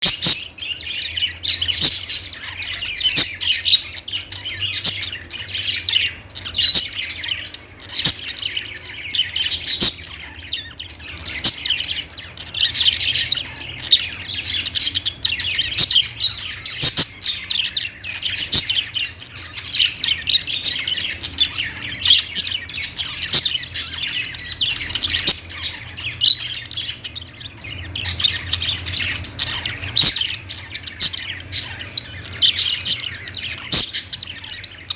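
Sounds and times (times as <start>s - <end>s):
budgerigar squawks: 0.0s - 34.9s
budgerigars chirping and chattering: 0.0s - 34.9s.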